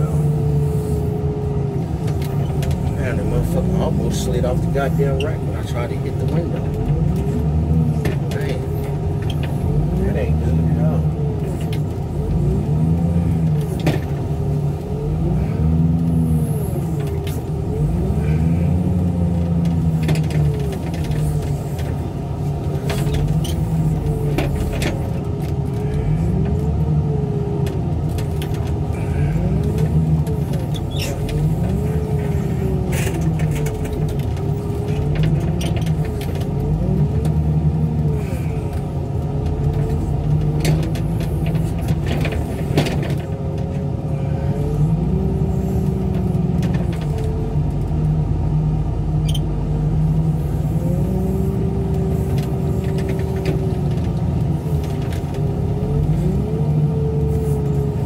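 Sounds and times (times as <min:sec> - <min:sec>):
heavy machinery engine under load: 0:00.0 - 0:58.0.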